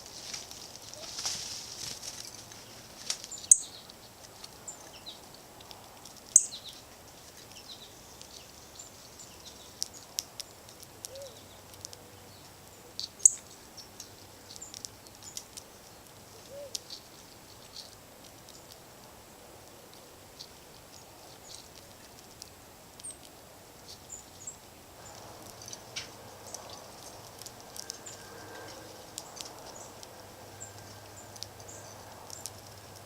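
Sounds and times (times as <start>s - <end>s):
songbirds chip calls: 2.2s - 33.0s.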